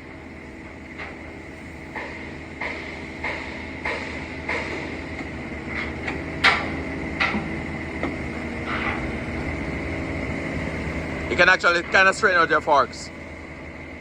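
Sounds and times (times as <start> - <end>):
forklift engine idling: 0.0 - 14.0.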